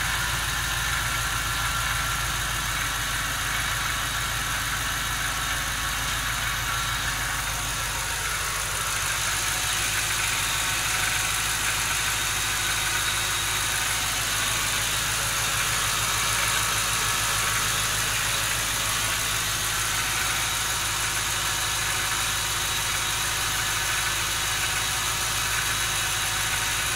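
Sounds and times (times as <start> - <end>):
car engine idling roughly: 0.0 - 26.9.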